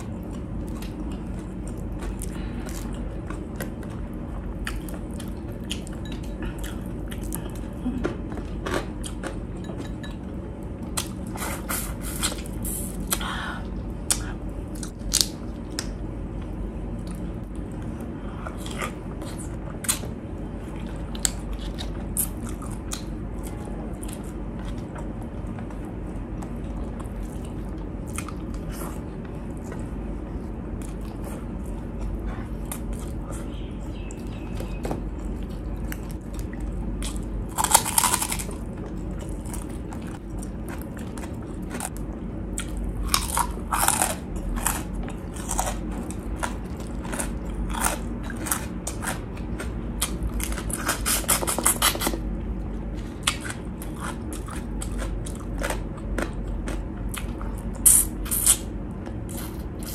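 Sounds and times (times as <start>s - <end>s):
person chewing shrimp: 0.0s - 10.3s, 17.0s - 59.9s.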